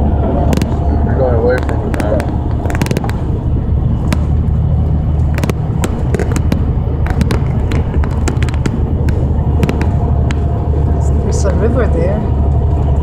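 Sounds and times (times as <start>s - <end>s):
road vehicle rumble: 0.0s - 13.0s
sharp clicks and rattles: 0.5s - 13.0s.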